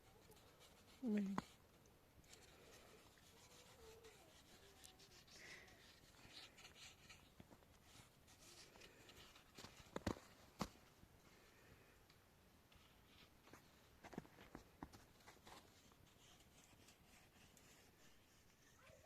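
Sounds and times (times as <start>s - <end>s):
faint rustling and scraping: 0.0s - 19.0s.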